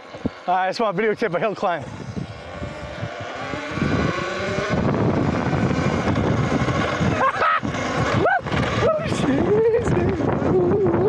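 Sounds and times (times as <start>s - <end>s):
electric motor whining: 0.0s - 11.0s
tyre and wind noise: 0.0s - 11.0s.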